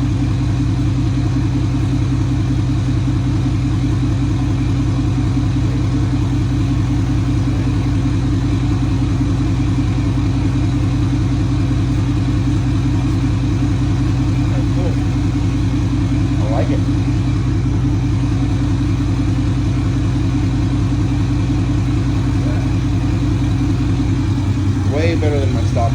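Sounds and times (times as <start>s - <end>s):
diesel engine idling: 0.0s - 25.9s.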